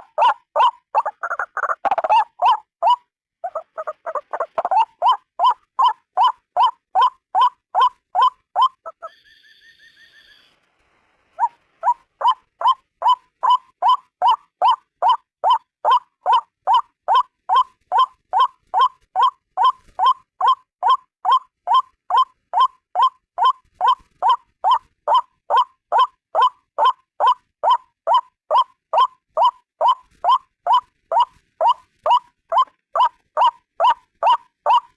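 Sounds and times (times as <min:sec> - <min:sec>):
waterhen calling: 0:00.0 - 0:09.2, 0:11.4 - 0:34.9.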